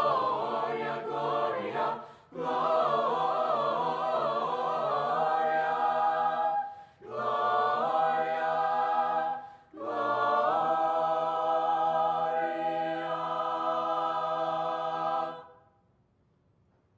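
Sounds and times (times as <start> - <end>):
choir singing sustained chords: 0.0 - 15.7.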